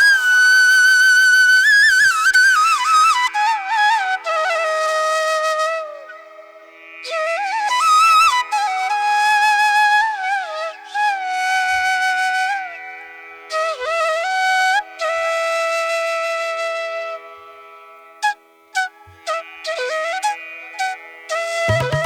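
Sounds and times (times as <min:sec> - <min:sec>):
flute playing slow melody: 0:00.0 - 0:12.7, 0:13.5 - 0:17.6, 0:18.2 - 0:22.0.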